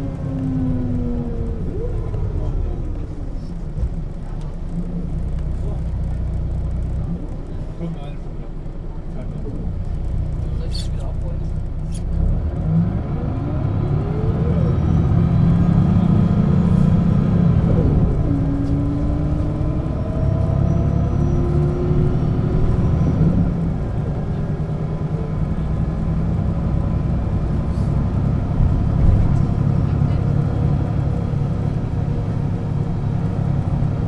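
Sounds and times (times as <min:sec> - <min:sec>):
bus diesel engine rumble: 0:00.0 - 0:34.0.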